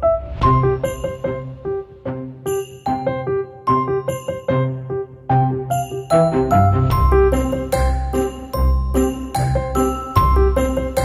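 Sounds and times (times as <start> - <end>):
bell-like melody: 0.5 - 11.0.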